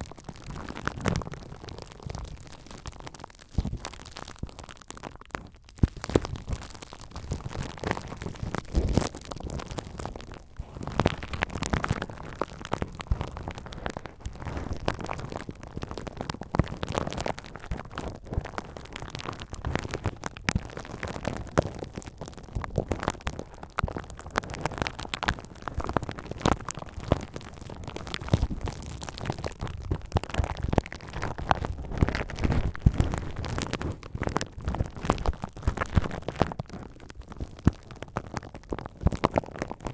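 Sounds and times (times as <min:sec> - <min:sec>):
bubble wrap crinkling: 0:00.0 - 0:39.9
bubble wrap popping: 0:00.0 - 0:39.9.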